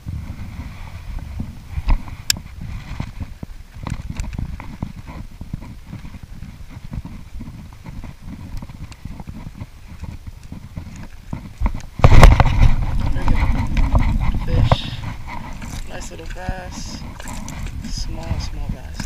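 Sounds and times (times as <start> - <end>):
waves slapping kayak hull: 0.1 - 19.0.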